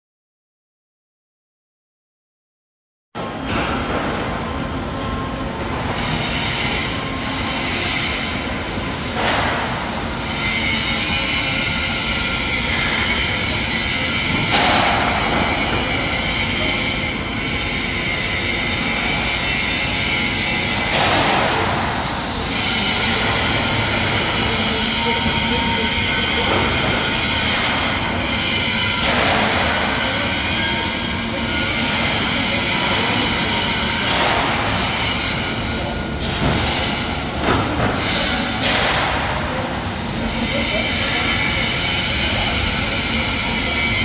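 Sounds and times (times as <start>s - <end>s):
industrial machinery running: 3.2s - 44.0s.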